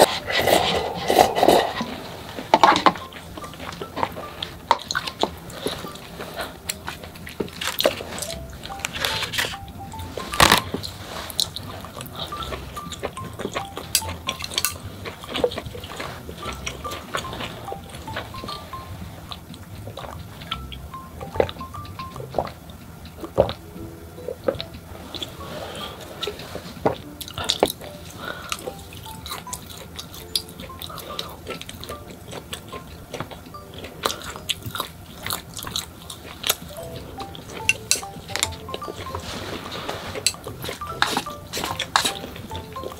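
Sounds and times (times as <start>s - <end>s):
background music of held notes: 0.0s - 42.9s
chewing and wet mouth noises: 0.0s - 42.9s.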